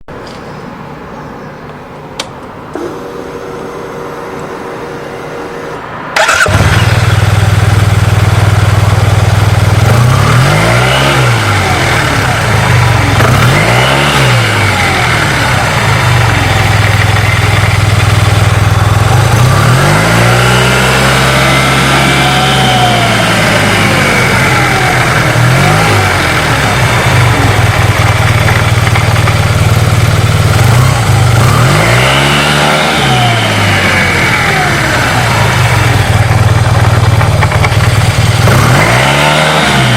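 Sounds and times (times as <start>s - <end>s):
scooter engine idling and revving: 2.6s - 39.9s.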